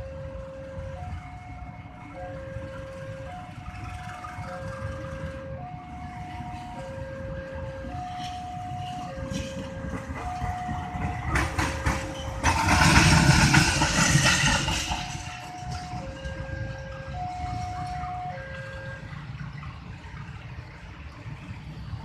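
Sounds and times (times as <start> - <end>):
train passing with clattering rush: 0.0 - 22.0.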